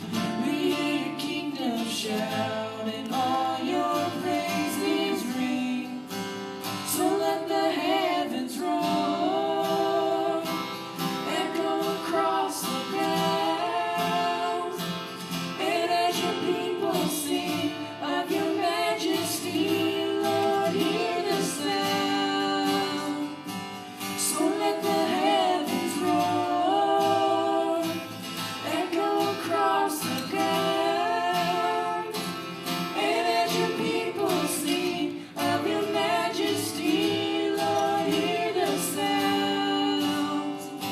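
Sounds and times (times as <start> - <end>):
children singing: 0.0 - 40.9.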